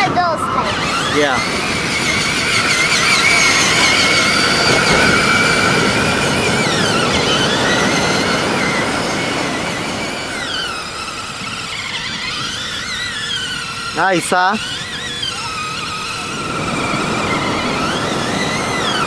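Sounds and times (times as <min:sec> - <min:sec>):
toy truck electric motor whining: 0:00.0 - 0:19.0.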